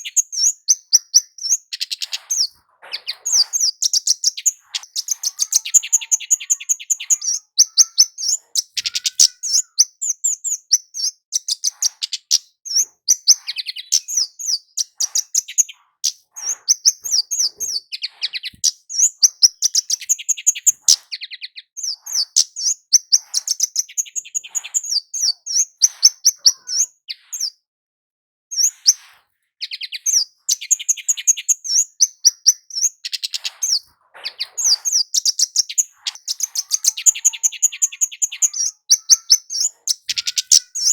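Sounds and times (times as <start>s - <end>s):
bird chirping song: 0.0s - 27.7s, 28.5s - 40.9s.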